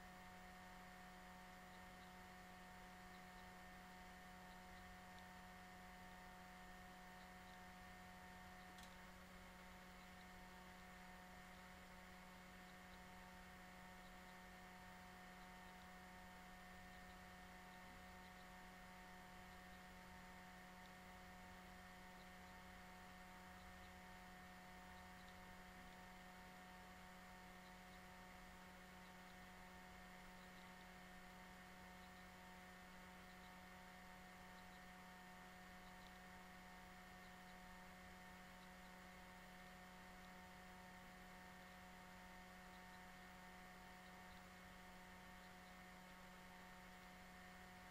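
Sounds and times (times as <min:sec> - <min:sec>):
faint electrical hum: 0:00.0 - 0:47.9.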